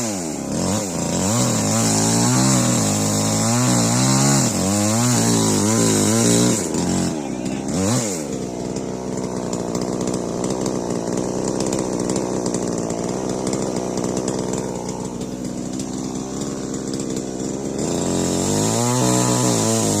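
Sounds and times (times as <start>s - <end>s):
chainsaw running: 0.0s - 20.0s.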